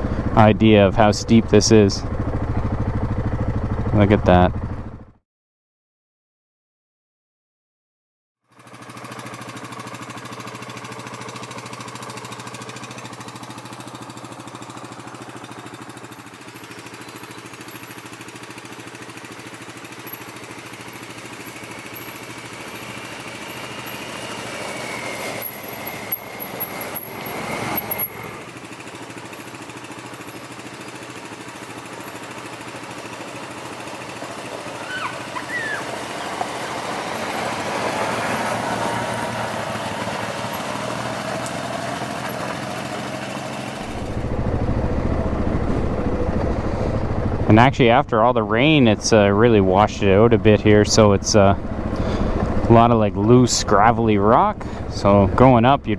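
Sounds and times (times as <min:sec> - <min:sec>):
atv engine running: 0:00.0 - 0:05.2, 0:08.5 - 0:55.9.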